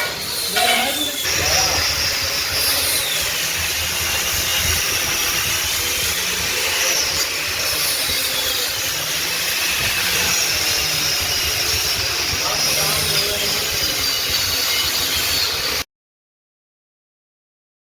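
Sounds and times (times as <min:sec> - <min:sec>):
metal fabrication hissing: 0:00.0 - 0:15.8.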